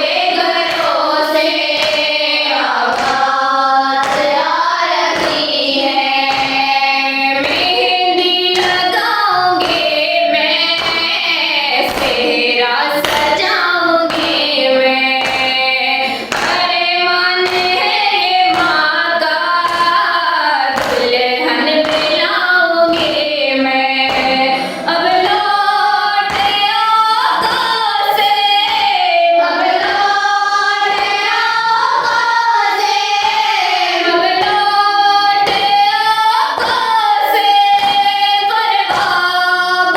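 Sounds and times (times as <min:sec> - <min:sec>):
hands striking chest rhythmically: 0:00.0 - 0:39.9
melodic chant with chorus: 0:00.0 - 0:39.9.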